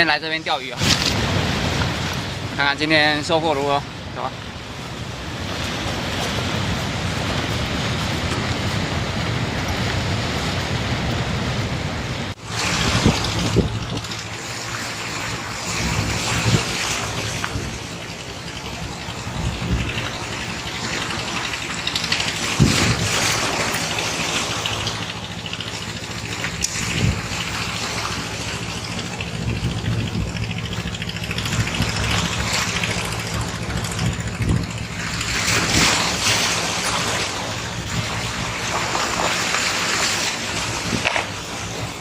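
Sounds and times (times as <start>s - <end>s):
heavy rain: 0.0s - 42.0s
wind buffeting microphone: 4.0s - 42.0s.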